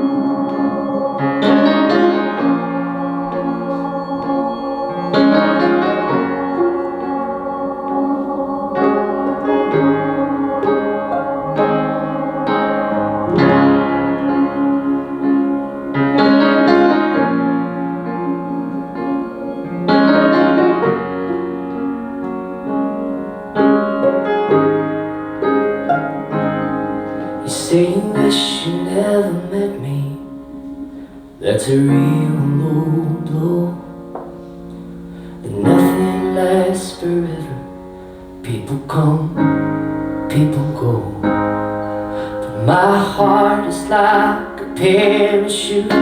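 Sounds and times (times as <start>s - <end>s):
piano playing slow chords: 0.0s - 46.0s.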